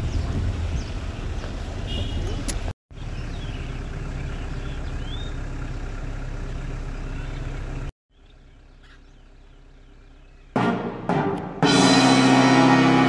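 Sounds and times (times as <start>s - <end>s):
vehicle rumble: 0.0s - 10.6s.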